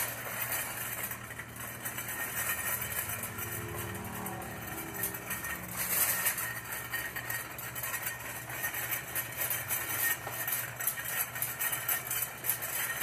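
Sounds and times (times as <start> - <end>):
shopping cart rattling: 0.0 - 13.0.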